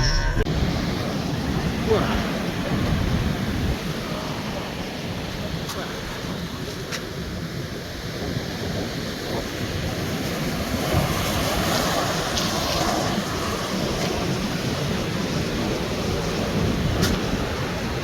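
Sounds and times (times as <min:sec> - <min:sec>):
wind rumbling on microphone: 0:00.0 - 0:18.0
sea waves breaking on beach: 0:00.5 - 0:18.0.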